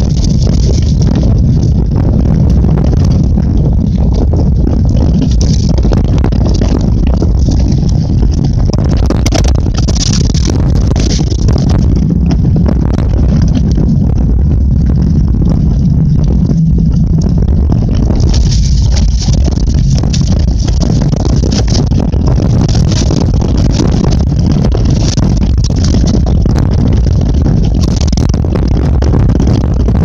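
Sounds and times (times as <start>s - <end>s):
bike rattling and knocking: 0.0s - 30.0s
bike rolling on dirt trail: 0.0s - 30.0s
wind rumble on microphone: 0.0s - 30.0s.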